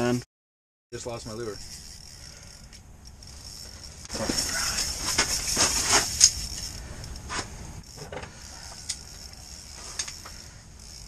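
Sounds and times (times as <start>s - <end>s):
fishing reel whirring: 1.0s - 11.0s.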